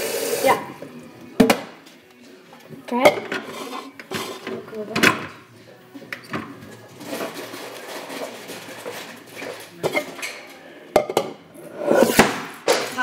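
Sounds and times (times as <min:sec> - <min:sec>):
kitchen items rustling and clattering: 0:00.8 - 0:13.0.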